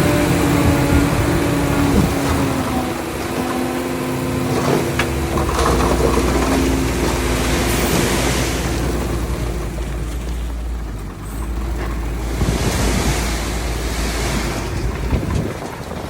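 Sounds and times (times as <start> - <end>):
diesel earthmoving machinery running: 0.0 - 16.0.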